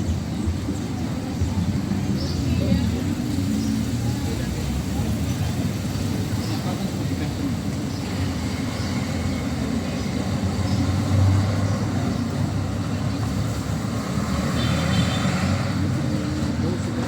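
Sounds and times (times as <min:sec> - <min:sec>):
rumble of passing traffic: 0:00.0 - 0:17.0.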